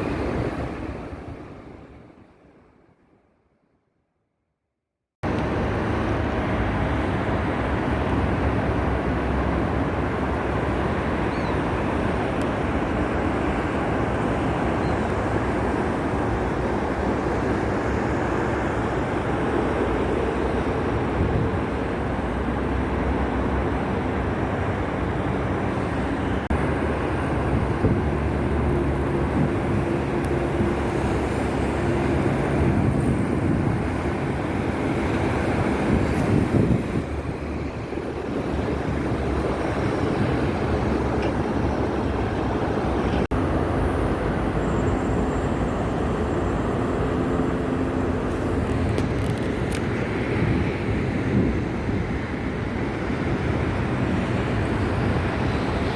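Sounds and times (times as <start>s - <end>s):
highway traffic rushing: 0.0s - 2.2s, 5.2s - 55.9s.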